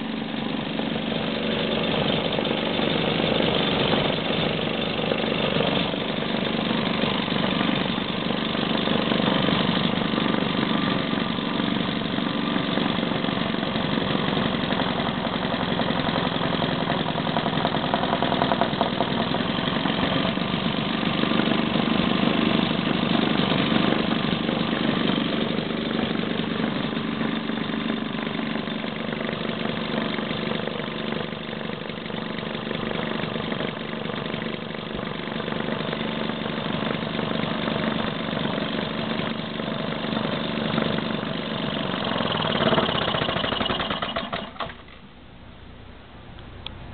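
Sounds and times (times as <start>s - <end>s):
two-stroke engine idling: 0.0s - 46.9s.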